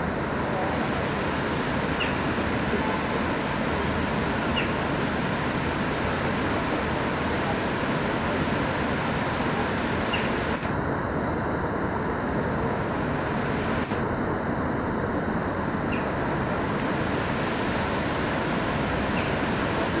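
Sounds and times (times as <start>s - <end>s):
steady outdoor rushing noise: 0.0s - 20.0s.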